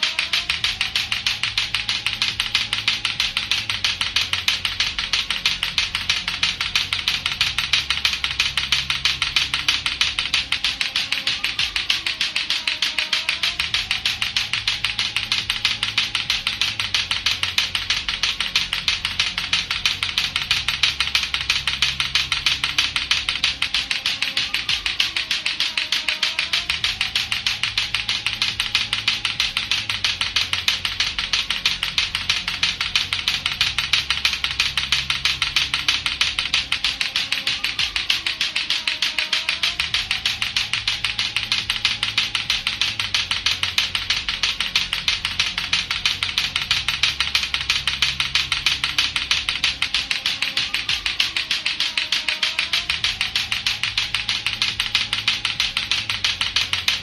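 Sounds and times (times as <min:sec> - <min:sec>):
low repeating background music: 0:00.0 - 0:57.0
plastic balls clacking together: 0:00.0 - 0:57.0.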